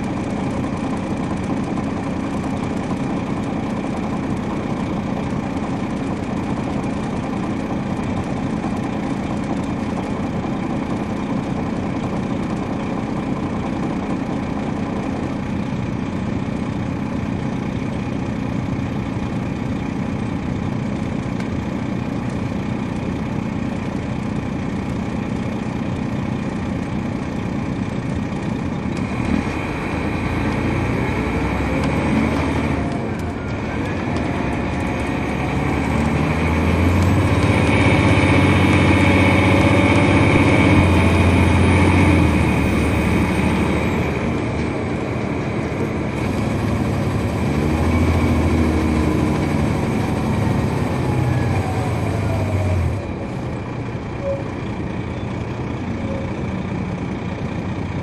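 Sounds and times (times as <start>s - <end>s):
bus diesel engine running: 0.0s - 58.0s
road noise: 0.0s - 58.0s.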